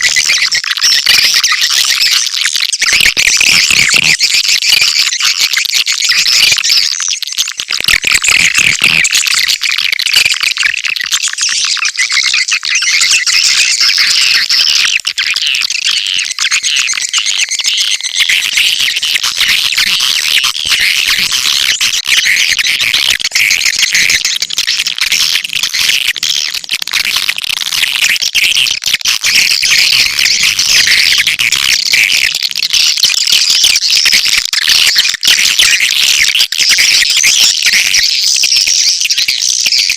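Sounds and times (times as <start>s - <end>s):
swiftlets chirping and twittering: 0.0s - 39.9s.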